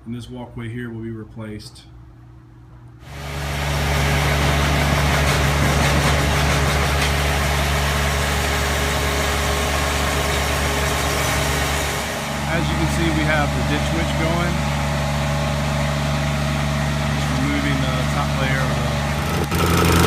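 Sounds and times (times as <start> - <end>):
machine engine deep hum: 2.8 - 20.0.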